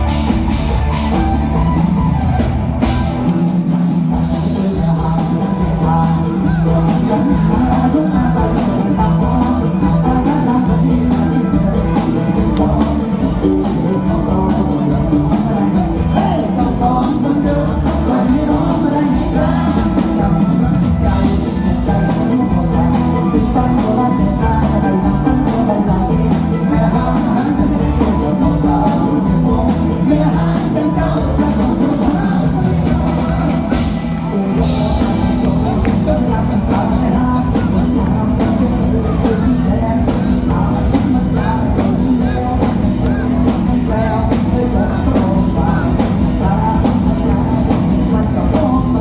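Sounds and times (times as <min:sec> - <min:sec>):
drum kit beat: 0:00.0 - 0:49.0
live band music: 0:00.0 - 0:49.0.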